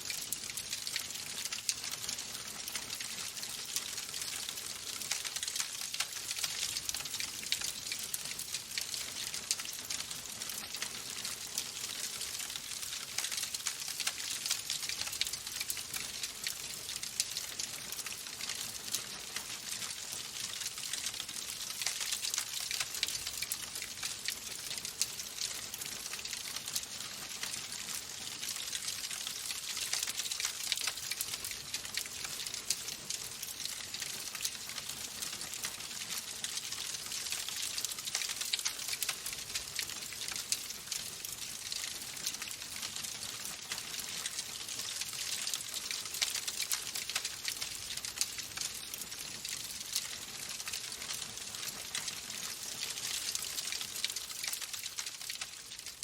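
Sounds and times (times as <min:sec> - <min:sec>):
wood fire crackling: 0:00.1 - 0:56.0.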